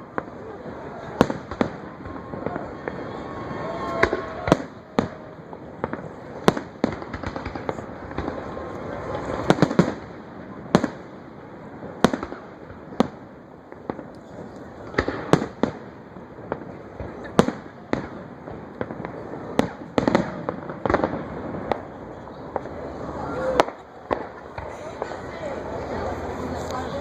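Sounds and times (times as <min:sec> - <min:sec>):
fireworks bangs: 0:00.0 - 0:26.4
fireworks crackling: 0:00.0 - 0:27.0.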